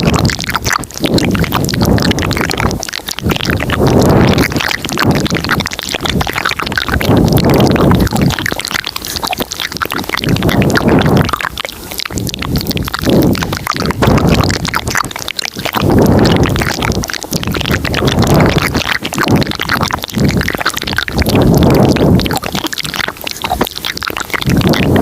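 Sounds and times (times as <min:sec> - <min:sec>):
wet mouth clicks and smacks: 0:00.0 - 0:25.0.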